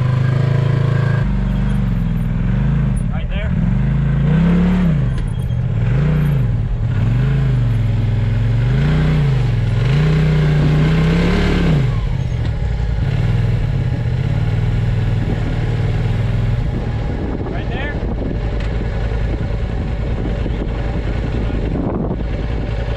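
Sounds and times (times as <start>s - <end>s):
off-road vehicle engine revving: 0.0s - 22.9s.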